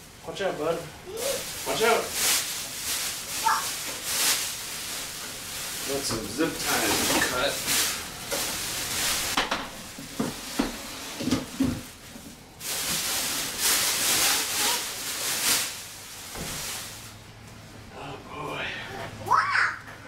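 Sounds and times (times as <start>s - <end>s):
plastic wrapping crinkling: 1.1s - 17.2s.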